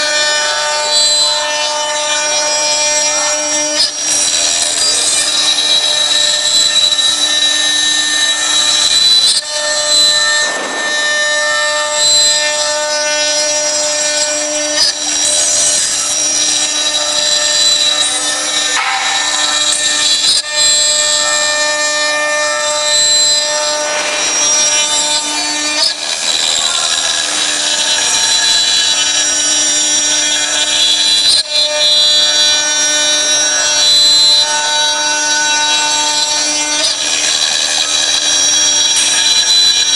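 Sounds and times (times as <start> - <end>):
router spindle whine: 0.0 - 39.9
steady machine tones: 0.0 - 39.9.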